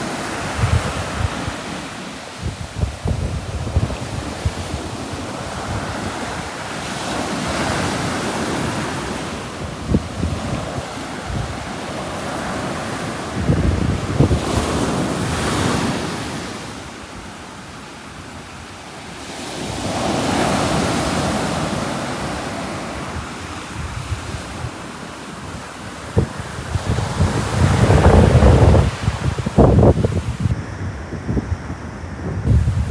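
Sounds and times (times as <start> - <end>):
wind buffeting microphone: 0.0 - 16.5, 19.6 - 32.9
sea waves breaking on shore: 0.0 - 32.9.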